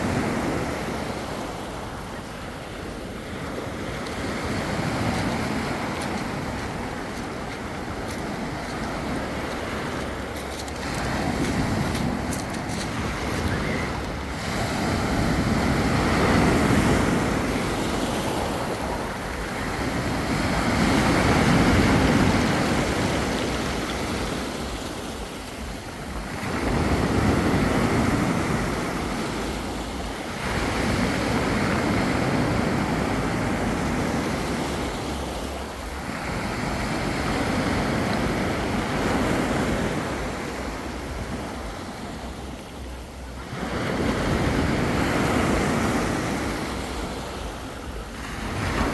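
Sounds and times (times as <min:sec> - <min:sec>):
waves breaking on a beach: 0:00.0 - 0:48.9.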